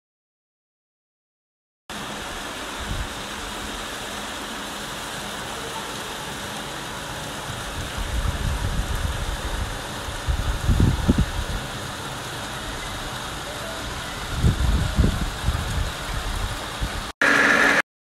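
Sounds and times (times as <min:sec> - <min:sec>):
steady rushing hiss: 0:01.9 - 0:17.8.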